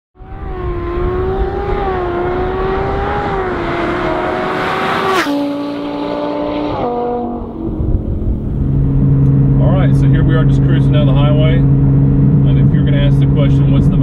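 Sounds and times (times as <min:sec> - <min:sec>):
car engine revving high: 0:00.2 - 0:14.0.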